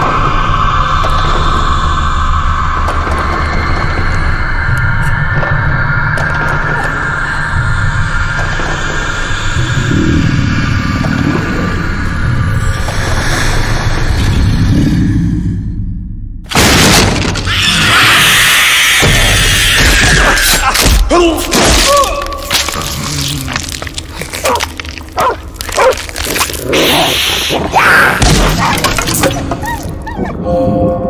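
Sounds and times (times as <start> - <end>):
music: 0.0 - 18.2, 19.0 - 31.0.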